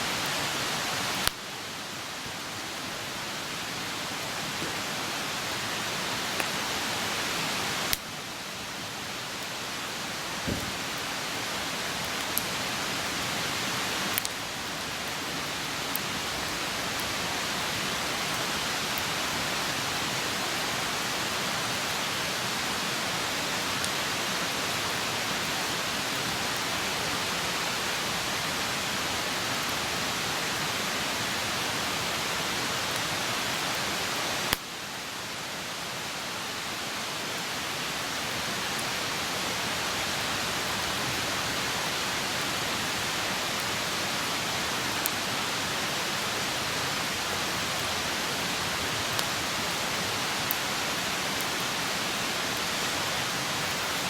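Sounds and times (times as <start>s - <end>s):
campfire hissing and crackling: 0.0s - 54.0s.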